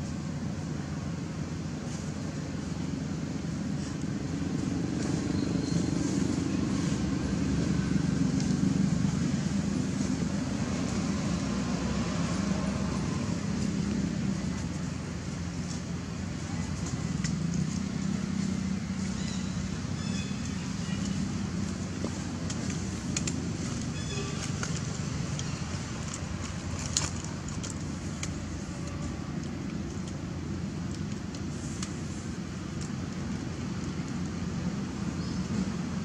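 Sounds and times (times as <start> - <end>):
motor vehicle engines rumbling: 0.0 - 36.0.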